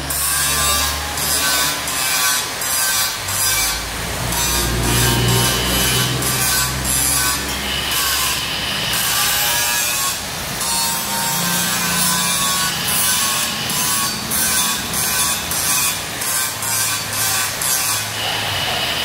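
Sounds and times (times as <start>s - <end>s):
electric arc welding crackle: 0.0s - 19.0s.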